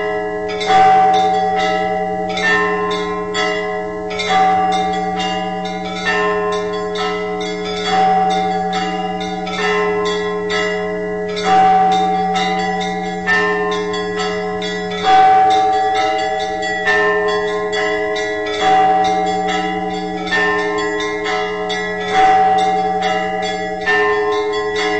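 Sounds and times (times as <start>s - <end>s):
deep church bell strokes: 0.0s - 24.9s
peal of smaller bells: 0.0s - 24.9s.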